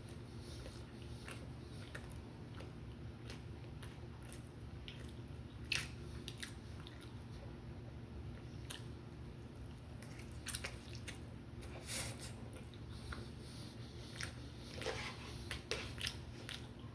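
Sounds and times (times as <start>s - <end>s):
chewing and biting: 0.0s - 7.6s, 8.3s - 11.4s, 12.1s - 16.9s
steady low hum: 0.0s - 16.9s.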